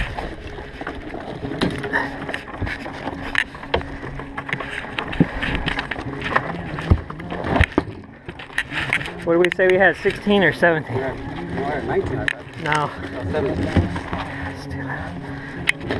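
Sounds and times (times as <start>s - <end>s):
wire crab pot clicking and rattling: 0.0s - 14.3s
boat engine running: 0.0s - 15.9s.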